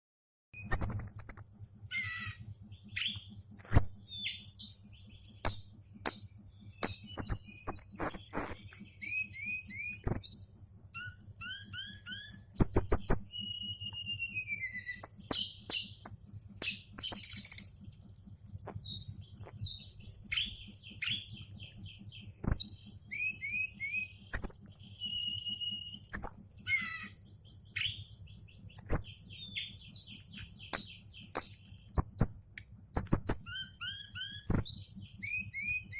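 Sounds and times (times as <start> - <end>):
songbird singing: 0.6 - 35.9
steady high-pitched buzz: 0.6 - 35.9.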